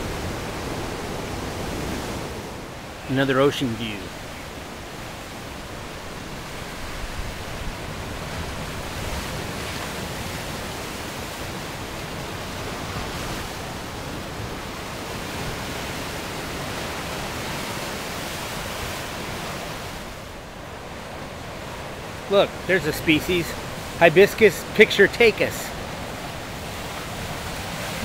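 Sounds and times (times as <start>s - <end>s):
ocean surf rushing: 0.0s - 28.0s.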